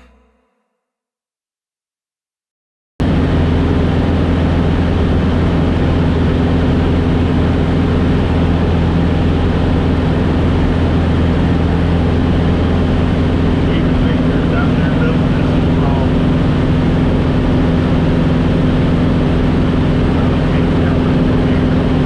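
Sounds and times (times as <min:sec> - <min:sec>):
airplane engine droning in cabin: 0:03.1 - 0:22.0.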